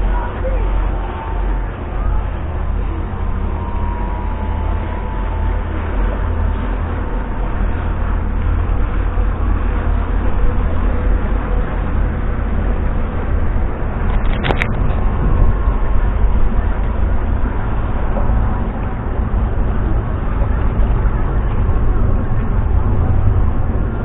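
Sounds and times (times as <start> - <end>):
boat engines rumbling: 0.0 - 24.0.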